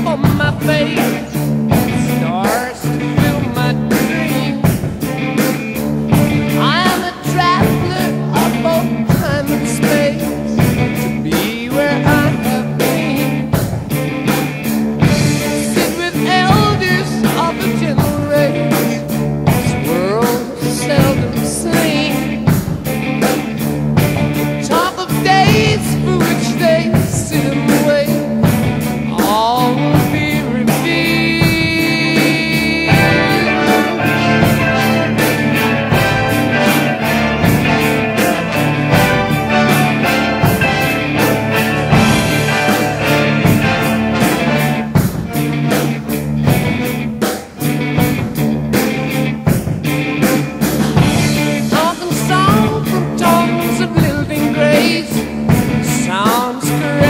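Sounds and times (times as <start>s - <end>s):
rock song with singing: 0.0s - 57.0s.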